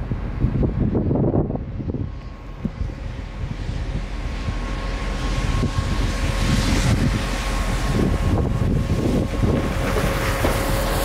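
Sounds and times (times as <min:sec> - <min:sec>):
truck tyres hissing on wet road: 0:00.0 - 0:11.0
wind rumbling on microphone: 0:00.0 - 0:11.0.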